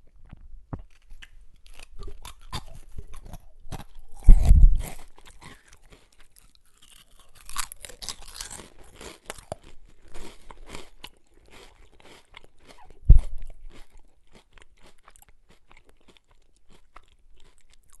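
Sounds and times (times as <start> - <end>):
person crunching chips: 0.2 - 18.0.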